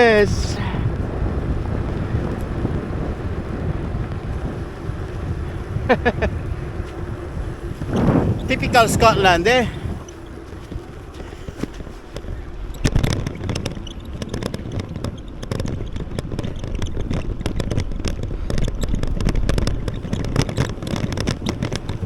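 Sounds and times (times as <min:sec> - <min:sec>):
rain tapping on microphone: 0:00.0 - 0:22.0
wind buffeting microphone: 0:00.0 - 0:22.0.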